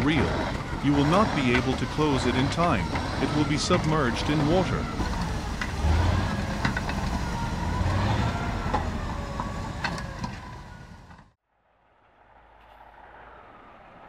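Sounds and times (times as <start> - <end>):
tracked vehicle engine running: 0.0 - 11.4.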